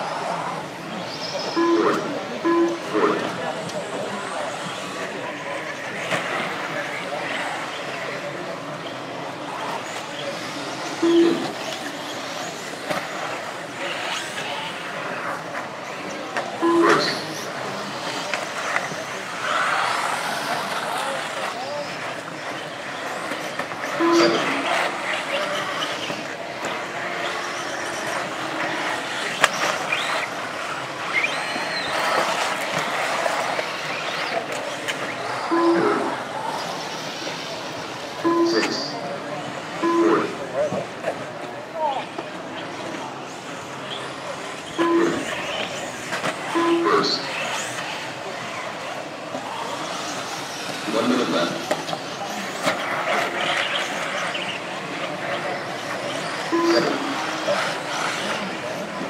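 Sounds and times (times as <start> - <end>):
rc car motor whines: 0.0 - 59.0.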